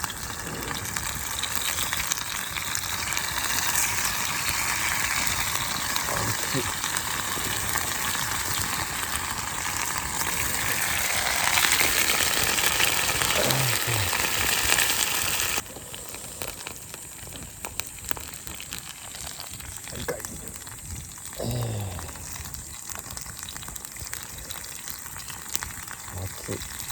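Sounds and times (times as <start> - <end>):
meat sizzling over fire: 0.0 - 26.9.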